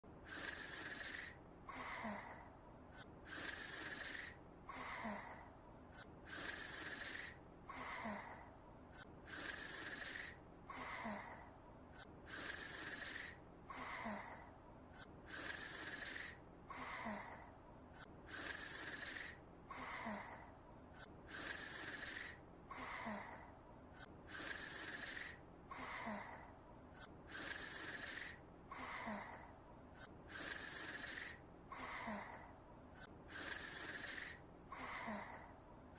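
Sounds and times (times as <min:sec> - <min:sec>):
cartoon snoring: 0:00.2 - 0:35.6.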